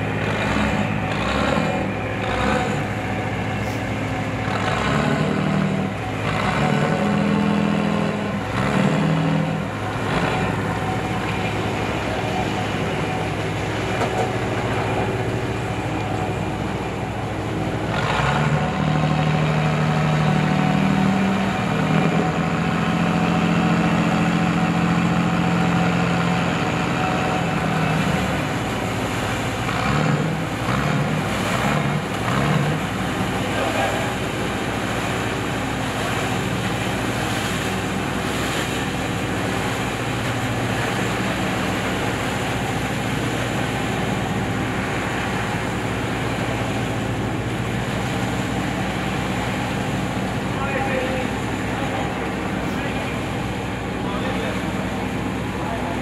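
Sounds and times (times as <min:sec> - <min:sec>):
boat engine drone: 0:00.0 - 0:56.0
higher boat engine note: 0:00.0 - 0:56.0.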